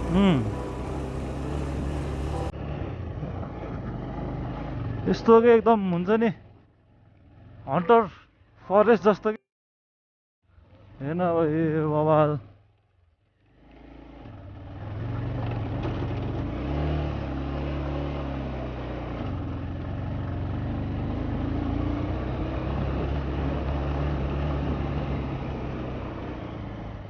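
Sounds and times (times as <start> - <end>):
motorcycle engine running: 0.0 - 7.7, 10.5 - 27.0.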